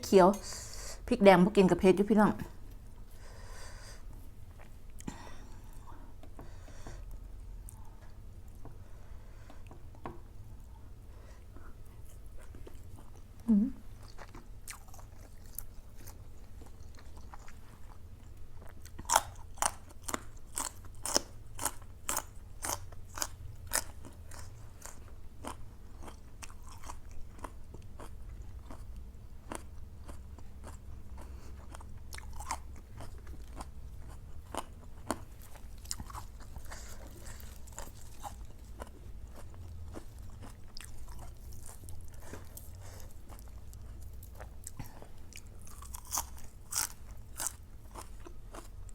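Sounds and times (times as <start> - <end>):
person chewing food: 2.7 - 48.9.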